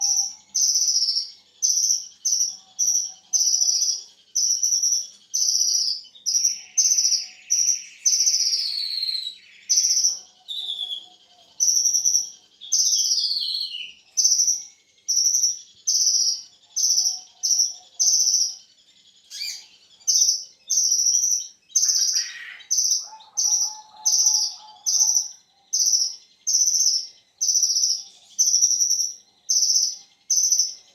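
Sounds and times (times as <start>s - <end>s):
buzzy bird trill: 0.0s - 30.9s
sunbird high chirps: 0.0s - 30.9s.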